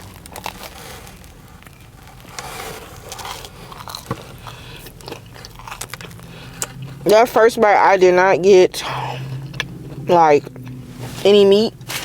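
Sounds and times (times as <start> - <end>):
chewing sandwich with soft crunches: 0.0 - 7.1, 8.8 - 12.0.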